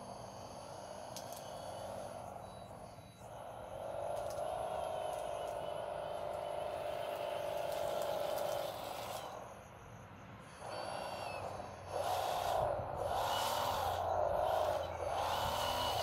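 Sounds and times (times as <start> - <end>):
toy loader motor whine: 0.0 - 16.0.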